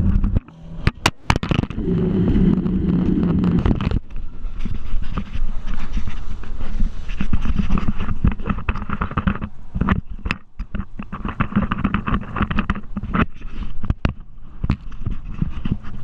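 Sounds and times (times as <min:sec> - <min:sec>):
boat motor rumbling: 0:00.0 - 0:16.0
wind buffeting microphone: 0:00.0 - 0:16.0.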